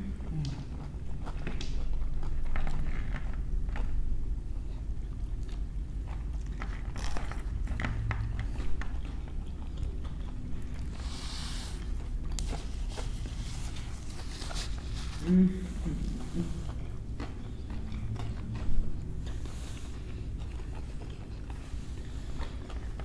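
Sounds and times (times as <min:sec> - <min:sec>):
chewing and crunching: 0:00.0 - 0:23.0.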